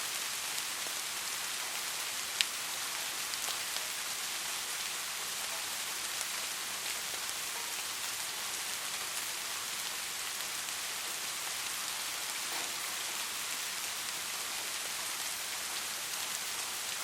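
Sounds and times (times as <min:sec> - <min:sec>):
soft rain falling: 0:00.0 - 0:17.0.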